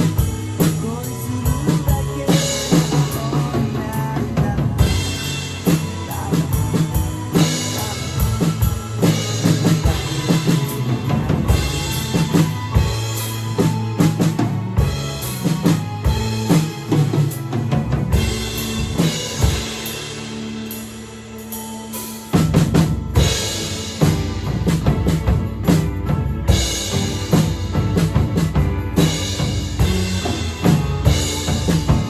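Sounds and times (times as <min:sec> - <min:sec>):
drum kit playing: 0:00.0 - 0:32.0
pop-rock backing track: 0:00.0 - 0:32.0.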